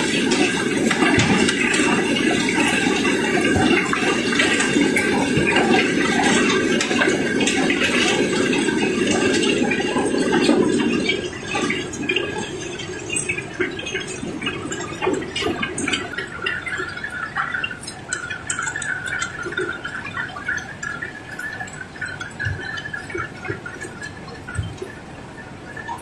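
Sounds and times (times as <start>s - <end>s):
cobblestones clattering: 0.0s - 25.3s.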